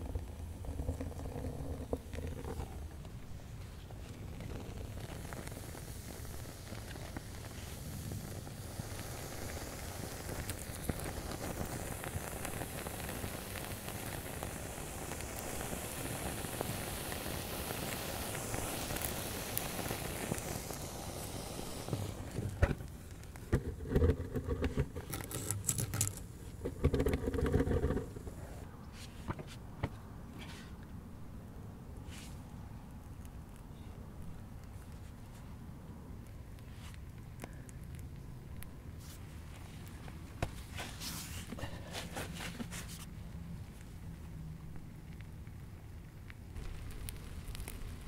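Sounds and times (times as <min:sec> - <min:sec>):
torch flame crackling and hissing: 0:00.0 - 0:29.6, 0:30.5 - 0:48.0.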